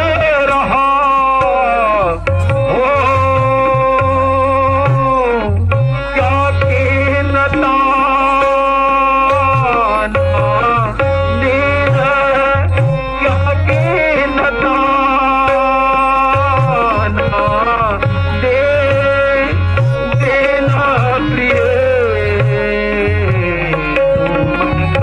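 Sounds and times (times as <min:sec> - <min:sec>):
harmonium drone: 0:00.0 - 0:25.0
person singing: 0:00.0 - 0:25.0
tabla beating: 0:00.0 - 0:25.0.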